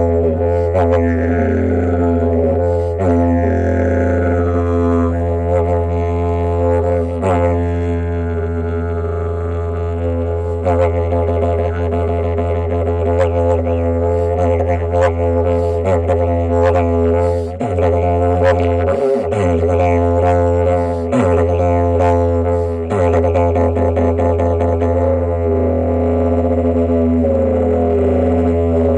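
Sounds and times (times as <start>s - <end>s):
didgeridoo drone: 0.0s - 28.9s.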